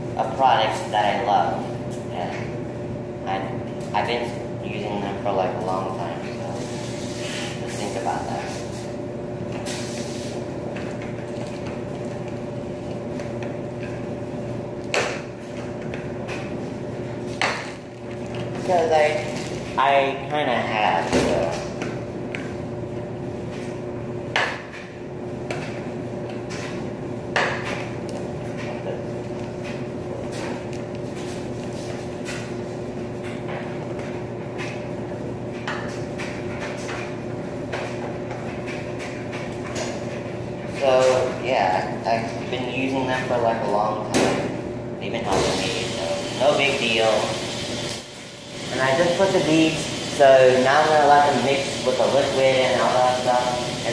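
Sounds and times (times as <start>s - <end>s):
washers and dryers humming: 0.0s - 53.9s.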